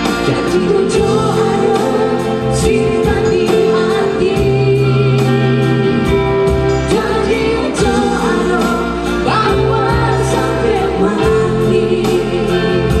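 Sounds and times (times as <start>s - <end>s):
keyboard backing music with beat: 0.0s - 13.0s
woman and man singing duet: 0.0s - 13.0s.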